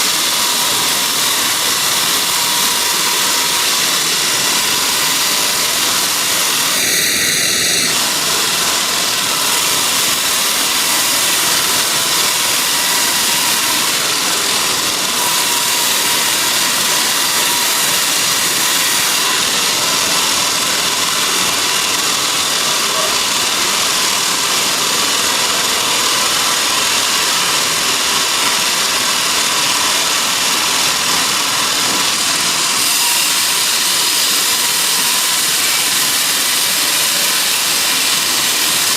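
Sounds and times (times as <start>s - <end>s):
high machine whine: 0.0s - 38.9s
sawmill machinery running: 0.0s - 38.9s.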